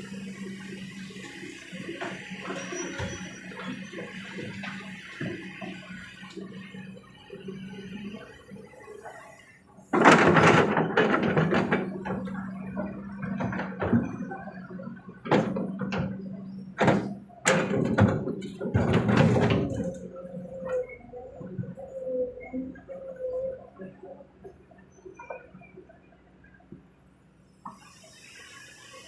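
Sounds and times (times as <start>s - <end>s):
diesel engine hum: 0.0s - 29.0s.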